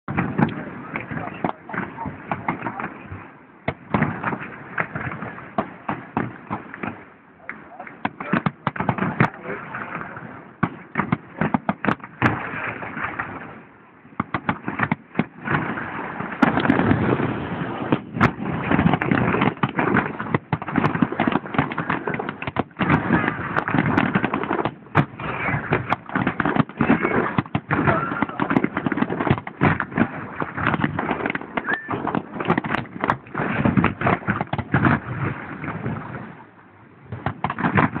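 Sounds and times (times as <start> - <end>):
firework bangs and crackles: 0.0 - 38.0
fireworks bursting: 0.0 - 38.0.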